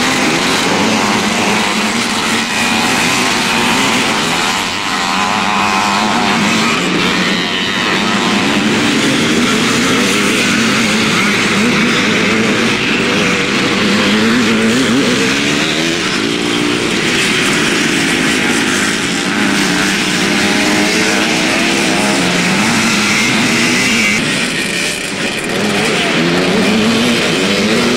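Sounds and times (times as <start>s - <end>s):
motorcycle engines revving: 0.0s - 27.9s.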